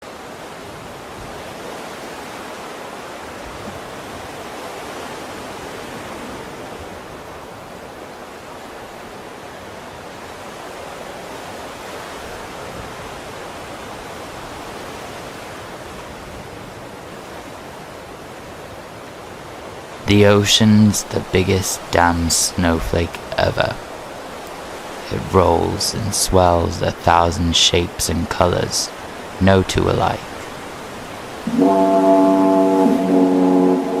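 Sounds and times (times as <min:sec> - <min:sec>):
ocean waves washing: 0:00.0 - 0:34.0.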